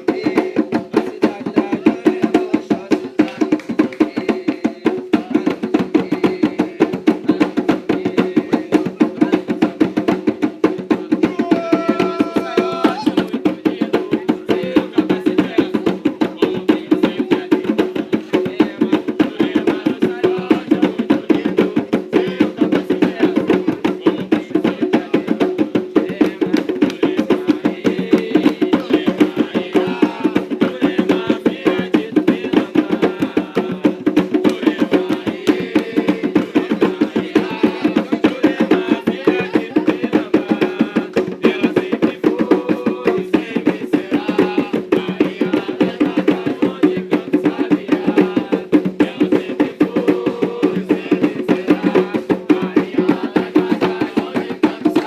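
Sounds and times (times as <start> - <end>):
hand drums playing fast rhythm: 0.0 - 55.0.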